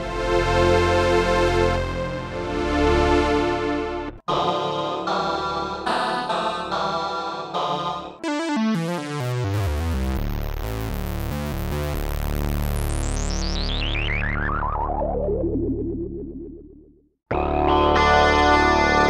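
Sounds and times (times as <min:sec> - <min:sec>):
synthesizer notes and held tone: 0:00.0 - 0:16.4.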